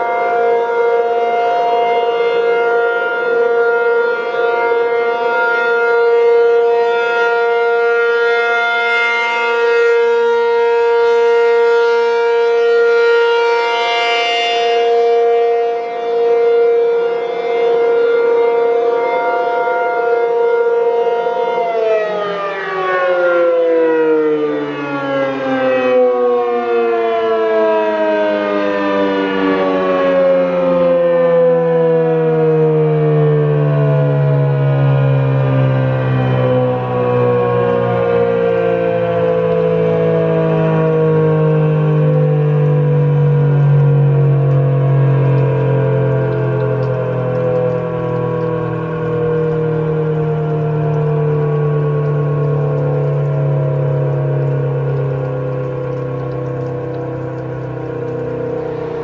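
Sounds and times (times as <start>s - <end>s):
warning siren winding down: 0.0s - 59.0s.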